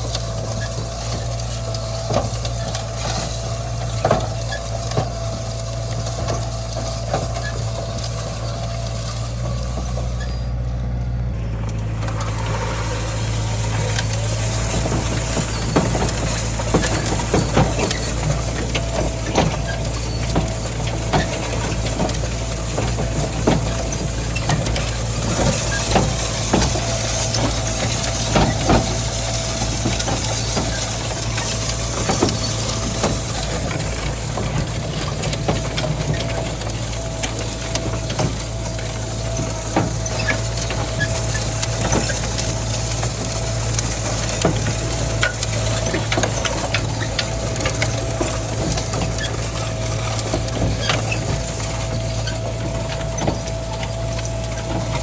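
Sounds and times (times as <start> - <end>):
light clicks and rattles: 0.0 - 55.0
tractor diesel engine running: 0.0 - 55.0.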